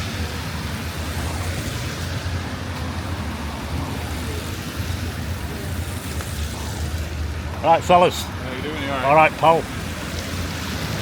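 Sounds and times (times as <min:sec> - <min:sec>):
street noise rumble and hiss: 0:00.0 - 0:11.0.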